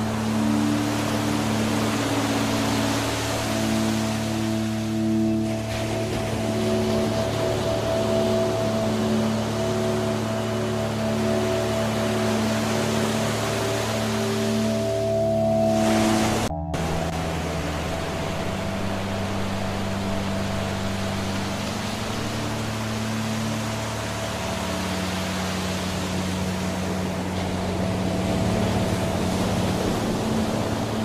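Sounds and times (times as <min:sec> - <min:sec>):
ambient music drone: 0:00.0 - 0:31.0
waterfall rushing: 0:00.0 - 0:31.0.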